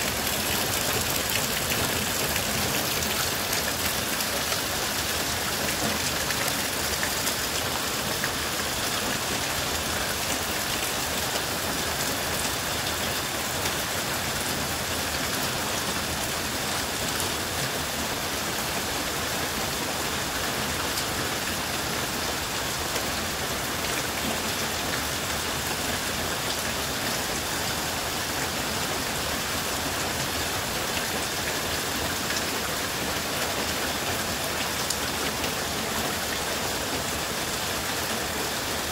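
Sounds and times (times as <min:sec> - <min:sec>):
heavy rain on water and pavers: 0:00.0 - 0:38.9.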